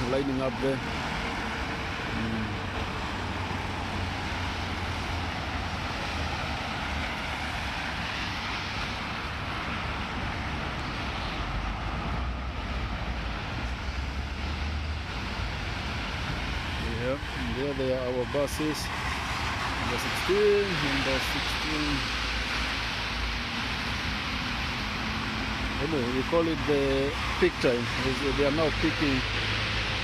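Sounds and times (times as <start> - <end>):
bus engines idling: 0.0 - 30.0
heavy rain: 0.0 - 30.0
traffic on wet road: 0.0 - 30.0.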